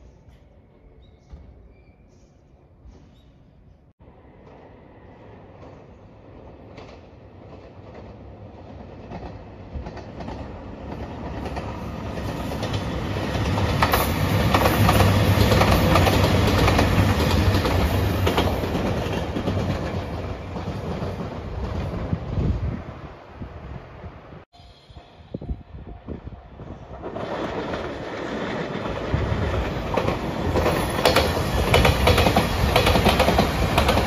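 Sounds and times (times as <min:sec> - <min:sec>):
diesel train passing: 0:04.0 - 0:34.0.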